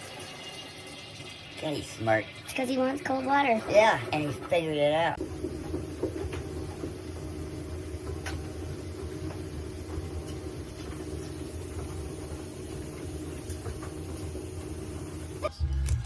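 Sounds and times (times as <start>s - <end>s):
low mechanical hum: 1.5s - 16.0s.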